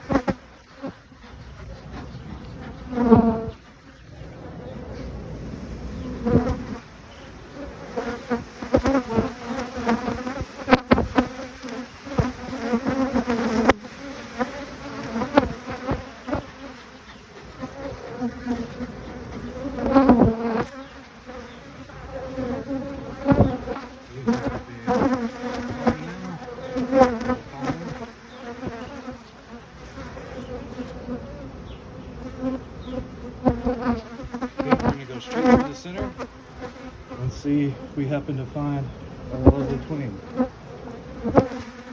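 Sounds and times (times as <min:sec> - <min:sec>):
bees buzzing: 0:00.0 - 0:41.9.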